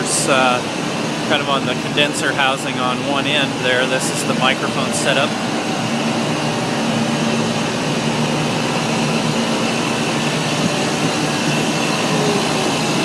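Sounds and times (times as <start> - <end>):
compressor hum: 0.0 - 13.0
condenser fans whooshing: 0.0 - 13.0.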